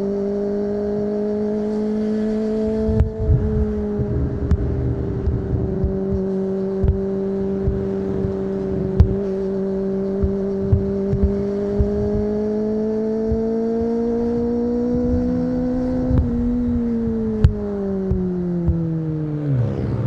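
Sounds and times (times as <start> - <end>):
motorcycle engine under throttle: 0.0 - 20.0
wind buffeting thumps: 1.0 - 20.0.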